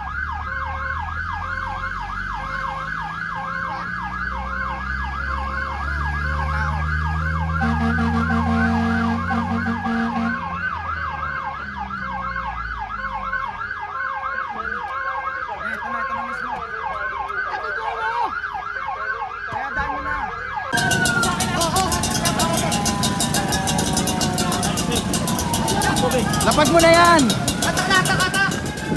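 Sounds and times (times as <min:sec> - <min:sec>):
fire truck siren yelping: 0:00.0 - 0:28.9.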